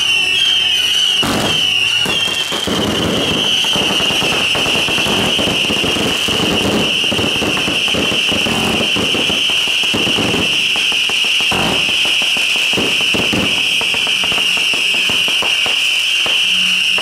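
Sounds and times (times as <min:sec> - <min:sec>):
fireworks crackling pops: 0:00.0 - 0:17.0
fireworks high-pitched whistle: 0:00.0 - 0:17.0.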